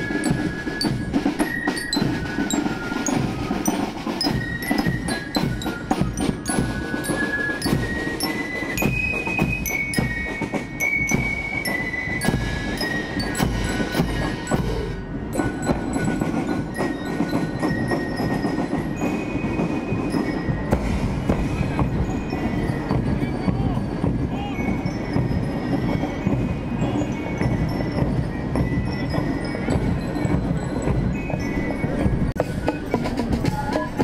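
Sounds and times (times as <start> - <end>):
bell lyres ringing: 0.0 - 34.0
cymbals: 0.0 - 34.0
fifes playing high melody: 0.0 - 34.0
snare drums: 0.0 - 34.0.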